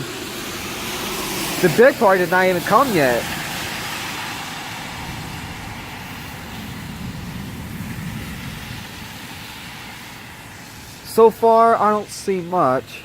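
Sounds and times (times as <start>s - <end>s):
low engine rumble: 0.0s - 11.5s
tyre hiss on wet road: 0.0s - 13.0s.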